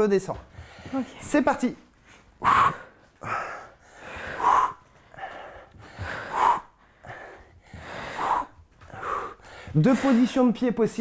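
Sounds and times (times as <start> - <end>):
person breathing hard: 0.5 - 1.2, 2.0 - 10.5.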